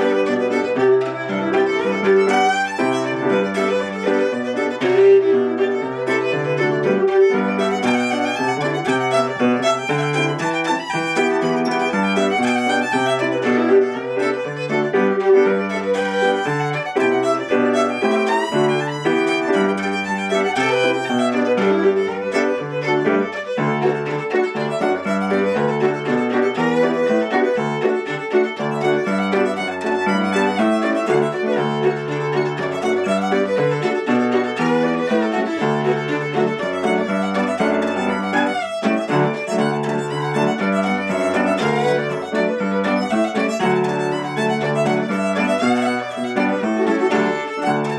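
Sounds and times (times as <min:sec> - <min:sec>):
fiddle playing a reel: 0:00.0 - 0:47.9
lower accompanying notes: 0:00.0 - 0:47.9.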